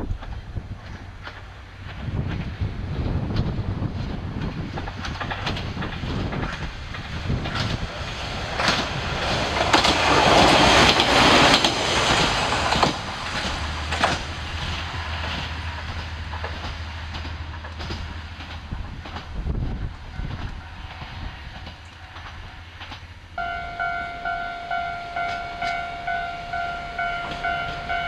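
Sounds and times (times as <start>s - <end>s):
diesel railcar passing: 0.0s - 28.0s
wheels clacking over rail joints: 0.0s - 28.0s.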